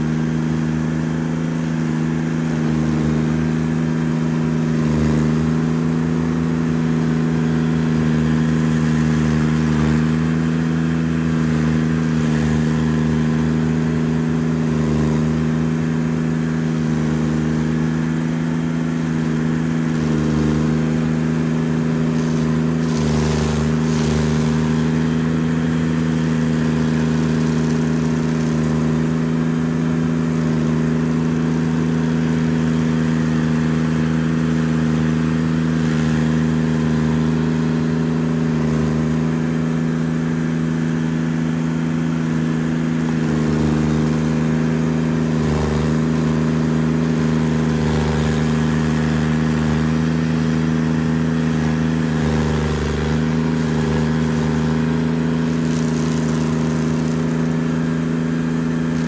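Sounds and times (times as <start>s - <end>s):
stump grinder grinding stump: 0.0s - 59.0s.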